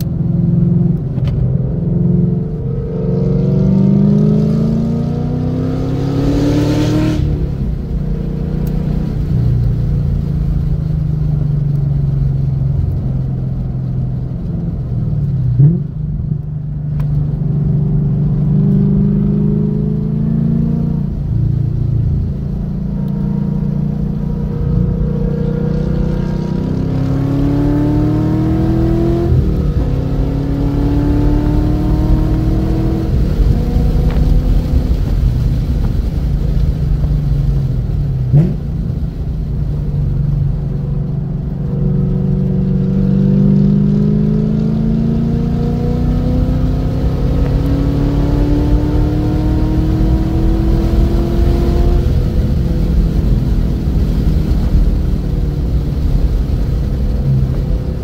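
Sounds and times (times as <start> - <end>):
car engine under hard driving: 0.0 - 58.0.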